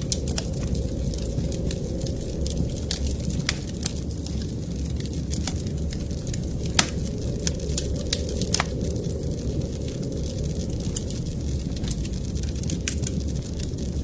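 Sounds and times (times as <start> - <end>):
fire popping: 0.0 - 14.0
low rumble: 0.0 - 14.0
wood fire crackling: 0.0 - 14.0.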